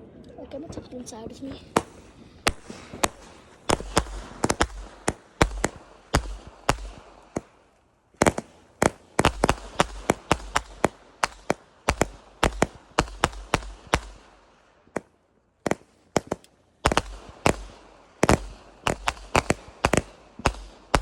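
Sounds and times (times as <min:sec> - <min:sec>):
firework cake sharp bangs: 0:01.5 - 0:21.0.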